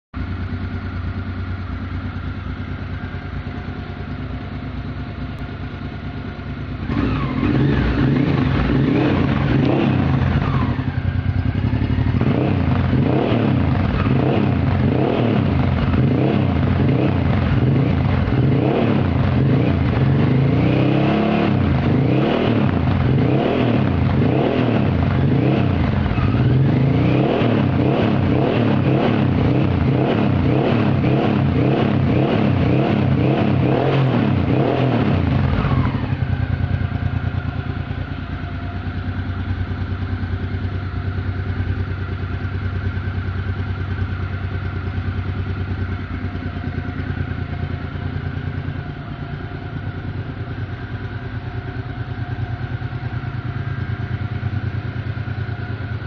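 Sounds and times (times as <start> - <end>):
motorcycle engine idling: 0.2 - 56.0
motorcycle throttle blips revving: 6.5 - 56.0.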